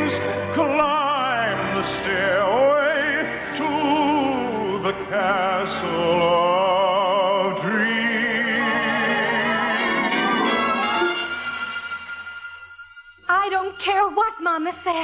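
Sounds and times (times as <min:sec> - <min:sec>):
operatic singing: 0:00.0 - 0:12.6
orchestral accompaniment: 0:00.0 - 0:15.0.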